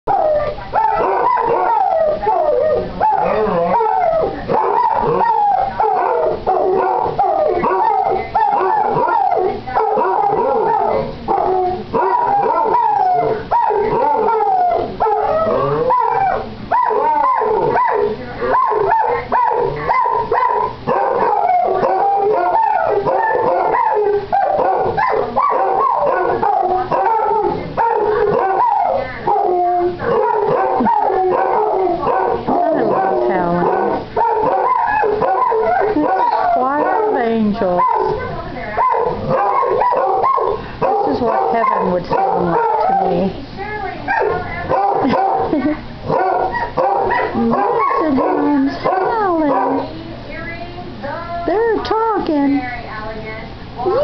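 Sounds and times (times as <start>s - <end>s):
dogs howling: 0.1s - 54.0s.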